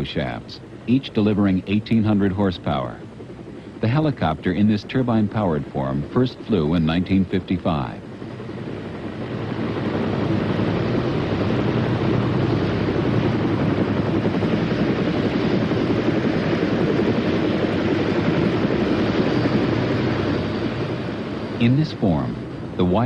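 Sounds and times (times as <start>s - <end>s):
helicopter rotor and engine: 0.0s - 23.0s.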